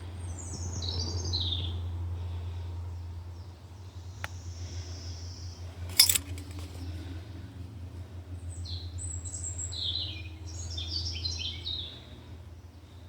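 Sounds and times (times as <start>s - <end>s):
low steady rumble: 0.0s - 13.0s
songbird singing: 0.0s - 13.0s.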